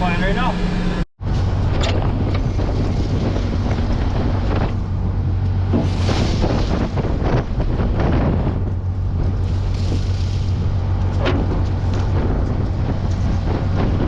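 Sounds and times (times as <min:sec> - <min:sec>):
engine humming: 0:00.0 - 0:14.0
wind buffeting microphone: 0:01.2 - 0:14.0.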